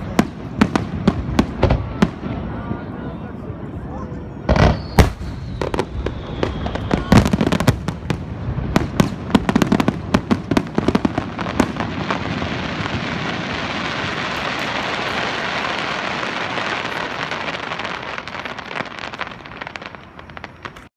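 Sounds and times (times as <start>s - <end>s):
crackling fireworks: 0.0s - 20.9s.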